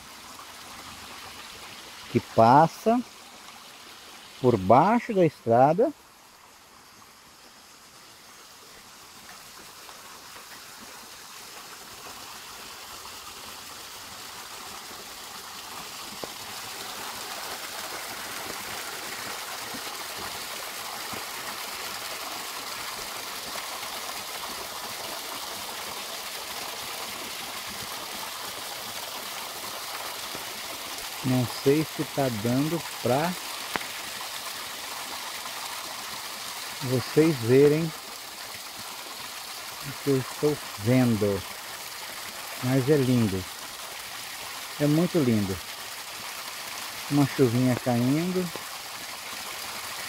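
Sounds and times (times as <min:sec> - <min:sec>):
water rushing through culvert: 0:00.0 - 0:50.0.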